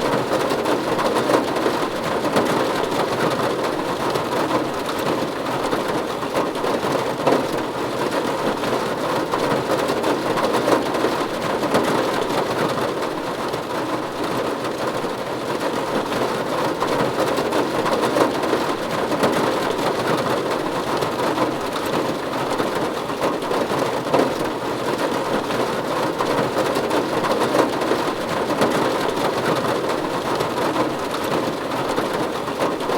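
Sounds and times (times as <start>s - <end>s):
rain on a roof: 0.0s - 32.9s.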